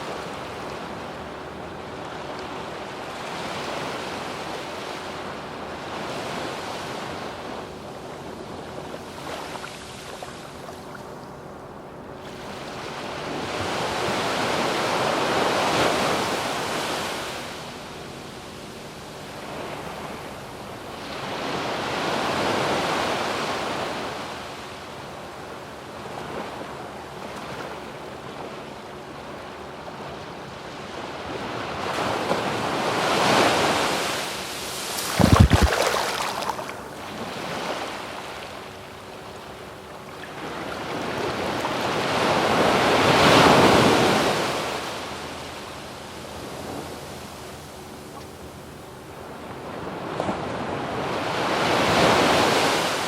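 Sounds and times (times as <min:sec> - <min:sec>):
surf washing up a beach: 0:00.0 - 0:11.2, 0:12.1 - 0:53.0.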